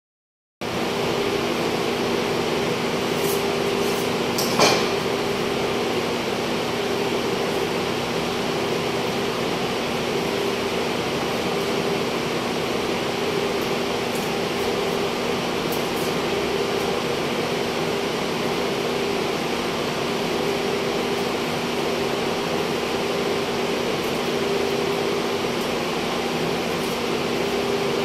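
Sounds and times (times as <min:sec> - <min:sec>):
refrigeration fans humming: 0:00.6 - 0:28.0.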